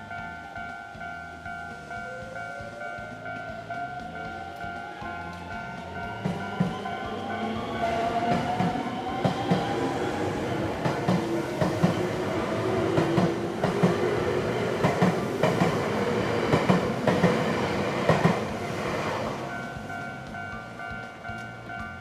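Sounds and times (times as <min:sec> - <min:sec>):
train wheels clacking over rail joints: 0:02.6 - 0:22.0.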